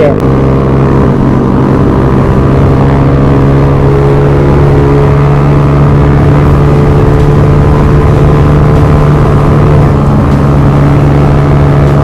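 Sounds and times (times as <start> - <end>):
scooter engine running: 0.0 - 12.0
wind rushing over microphone: 0.2 - 12.0.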